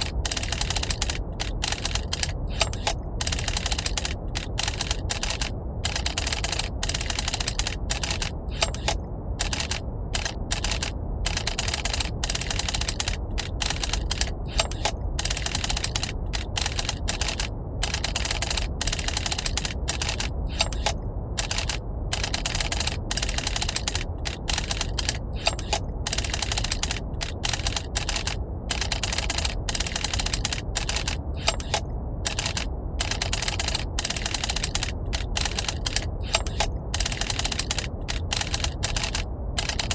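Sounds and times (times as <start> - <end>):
steady brown noise: 0.0 - 39.9
typewriter keys typing rapidly: 0.0 - 39.9.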